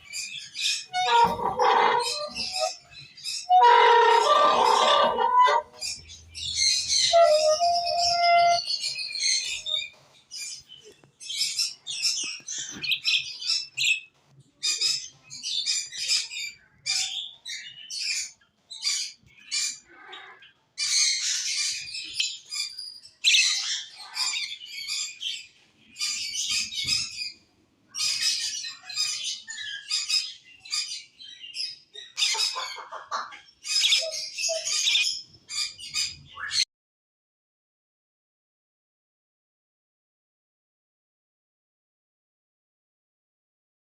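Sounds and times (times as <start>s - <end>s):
parrots chirping and chattering: 0.0s - 36.6s.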